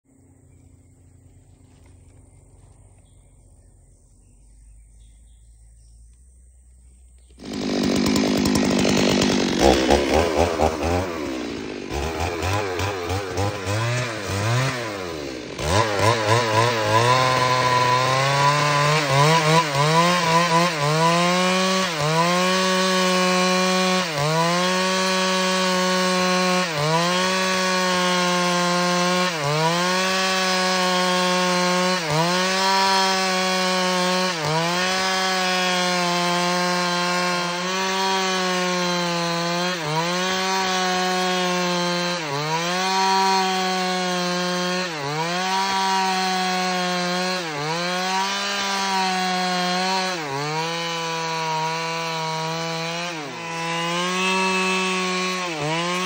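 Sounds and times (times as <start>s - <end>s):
chainsaw ripping a log: 7.2s - 56.0s.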